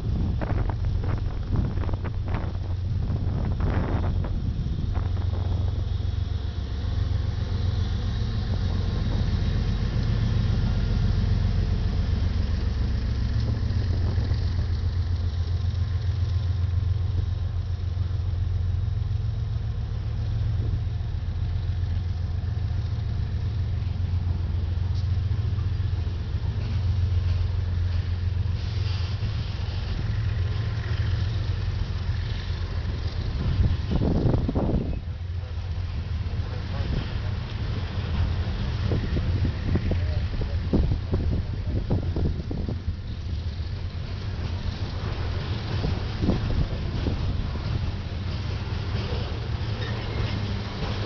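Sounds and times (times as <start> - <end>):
diesel locomotive engine hum: 0.0 - 51.0
freight cars rolling on rails: 0.0 - 51.0.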